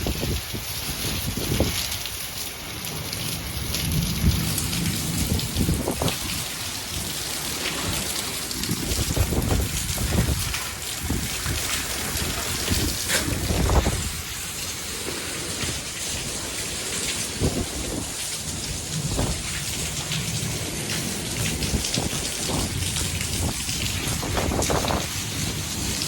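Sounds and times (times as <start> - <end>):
heavy rain pouring: 0.0 - 26.0
low thunder rumbles: 0.0 - 26.0.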